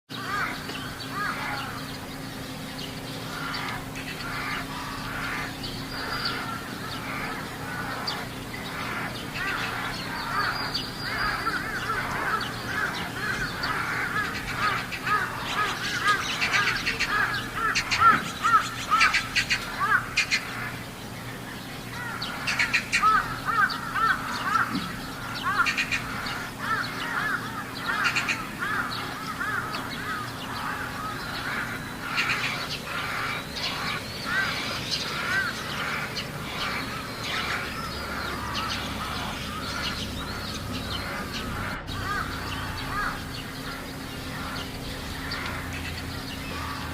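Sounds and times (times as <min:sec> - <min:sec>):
crows cawing: 0:00.1 - 0:46.9
steady low hum: 0:00.1 - 0:46.9.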